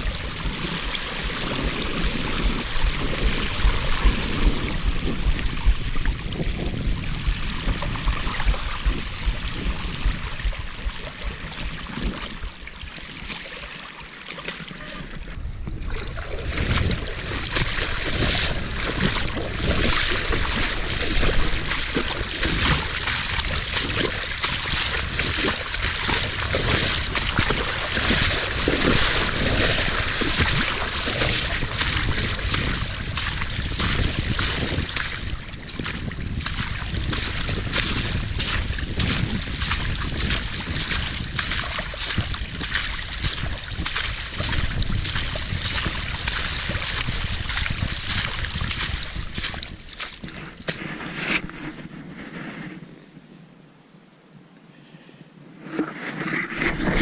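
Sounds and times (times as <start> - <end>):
bike splashing through water: 0.0 - 51.2.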